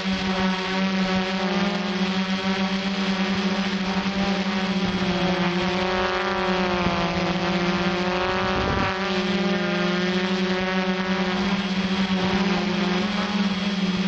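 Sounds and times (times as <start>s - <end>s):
drone propellers whirring: 0.0s - 14.0s.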